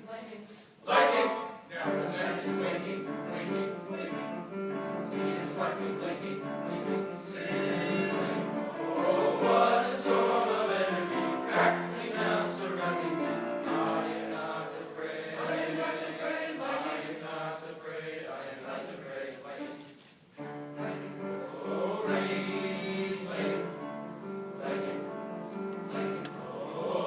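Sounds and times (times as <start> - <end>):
choir singing: 0.8 - 27.0.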